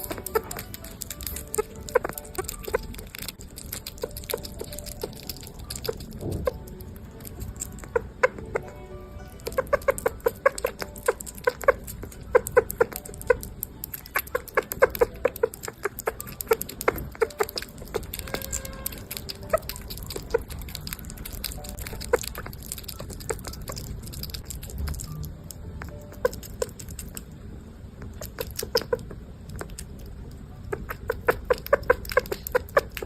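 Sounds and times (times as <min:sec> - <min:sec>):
small animal clucking chirps: 0:00.0 - 0:27.3, 0:28.0 - 0:33.0.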